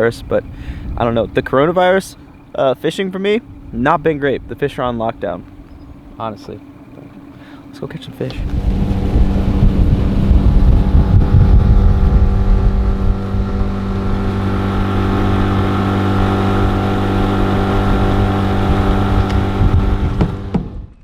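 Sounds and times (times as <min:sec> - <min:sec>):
wind buffeting microphone: 0:00.0 - 0:02.6, 0:03.2 - 0:06.2, 0:08.3 - 0:21.0
outboard motor running: 0:00.0 - 0:21.0.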